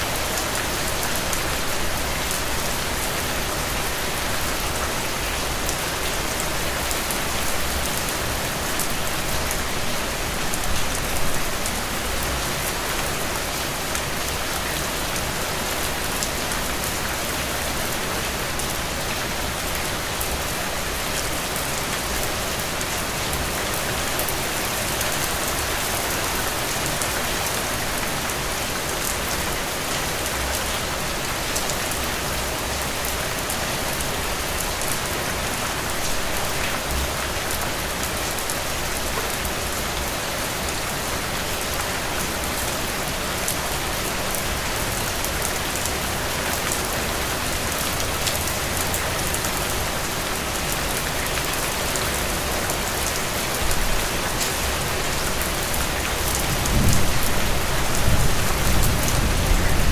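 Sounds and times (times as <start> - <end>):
heavy rain on soil and puddles: 0.0 - 59.9.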